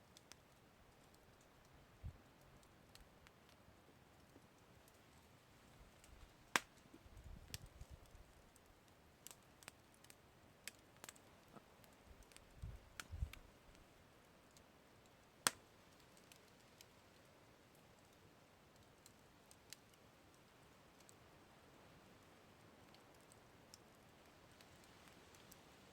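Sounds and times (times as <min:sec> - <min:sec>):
campfire crackling and popping: 0:00.0 - 0:25.9.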